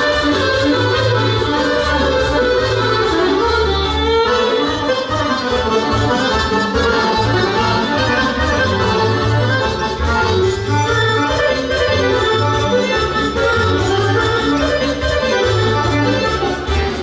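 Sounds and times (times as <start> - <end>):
accordion: 0.0 - 17.0
electronic keyboard: 0.0 - 17.0
violin: 0.0 - 17.0.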